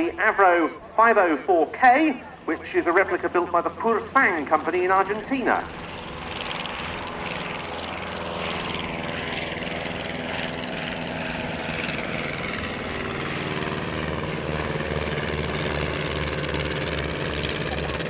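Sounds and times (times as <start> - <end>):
biplane piston engines passing overhead: 0.0 - 18.0.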